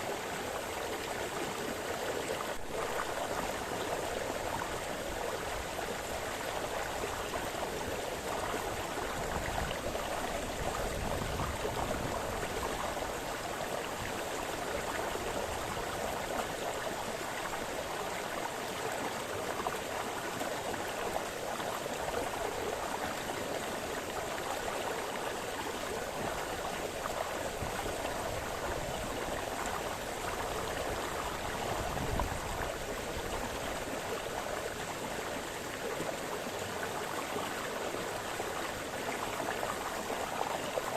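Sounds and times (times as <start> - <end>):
brook babbling over stones: 0.0 - 40.9.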